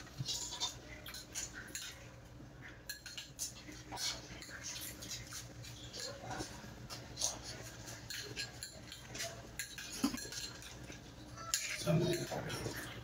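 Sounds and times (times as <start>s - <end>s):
metal spoons clinking in bowls: 0.0s - 13.0s
people eating and sipping: 0.0s - 13.0s.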